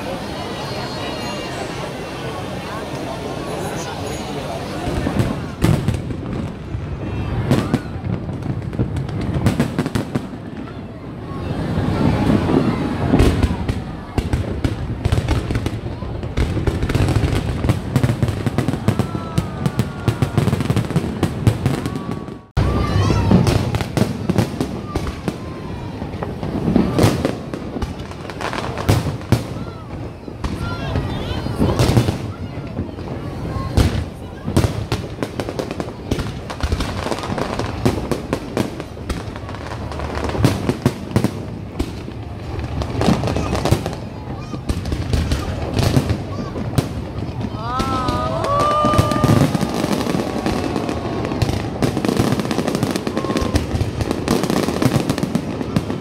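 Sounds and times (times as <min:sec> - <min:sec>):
fireworks crackling: 0:00.0 - 0:56.0
low rumble of fireworks: 0:00.0 - 0:56.0.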